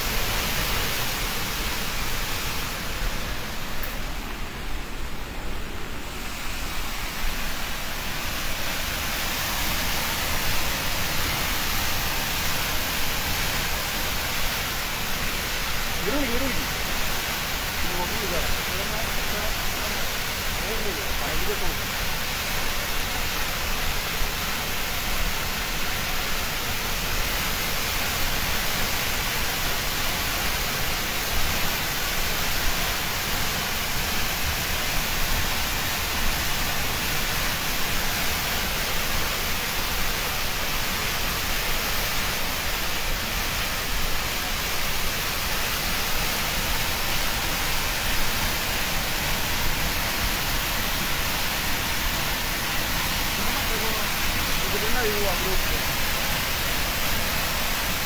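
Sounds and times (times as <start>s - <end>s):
water jet roaring into river: 0.0s - 58.0s.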